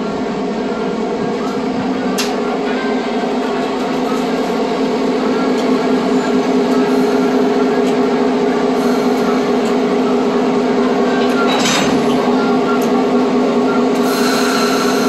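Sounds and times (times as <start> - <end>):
diesel locomotive humming: 0.0 - 15.0.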